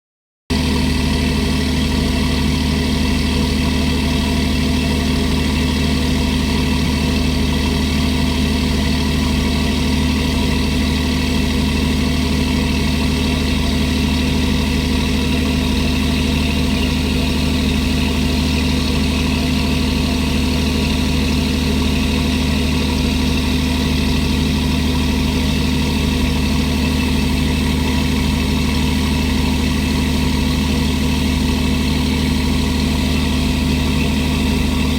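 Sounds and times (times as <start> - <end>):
boat engine idling: 0.5 - 34.9.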